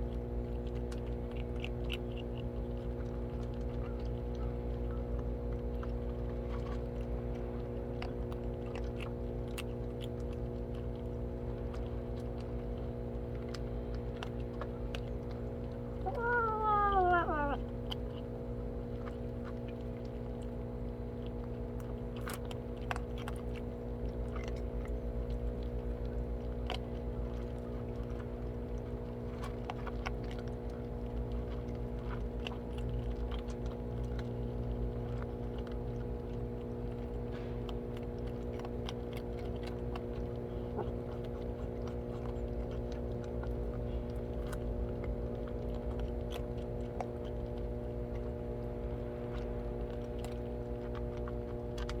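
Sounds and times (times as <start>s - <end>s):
cats crunching food: 0.0s - 52.0s
steady mechanical hum: 0.0s - 52.0s.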